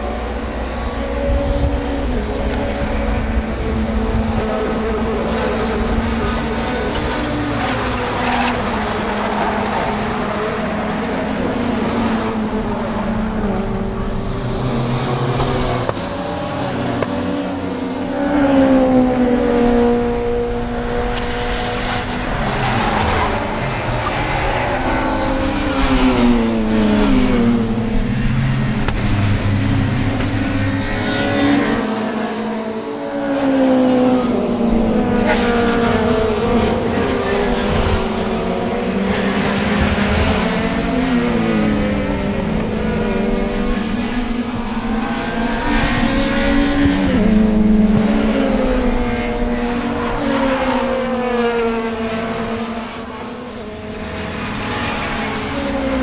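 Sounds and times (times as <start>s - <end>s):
race cars revving and passing: 0.0s - 56.0s.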